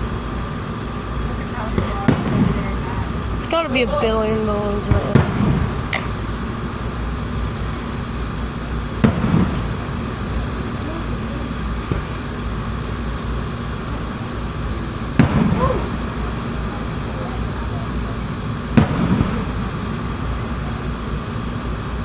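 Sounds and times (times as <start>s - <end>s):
fireworks booming: 0.0s - 22.0s
steady low rumble: 0.0s - 22.0s
faint firework bang: 1.5s - 3.8s, 4.7s - 21.2s.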